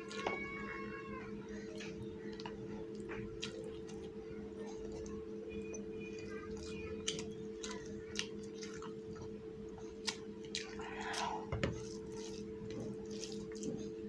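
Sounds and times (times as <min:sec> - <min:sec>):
steady low hum: 0:00.0 - 0:14.0
chewing: 0:01.6 - 0:14.0.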